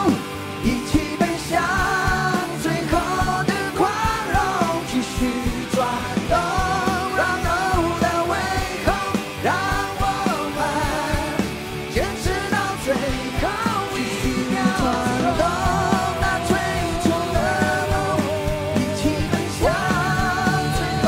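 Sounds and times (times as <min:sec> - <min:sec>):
live rock band: 0:00.0 - 0:21.0
man singing: 0:00.0 - 0:21.0.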